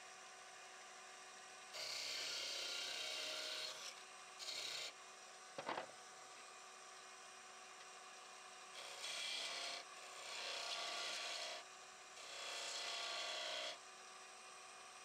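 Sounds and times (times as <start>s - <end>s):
faint lathe hum: 0.0s - 15.0s.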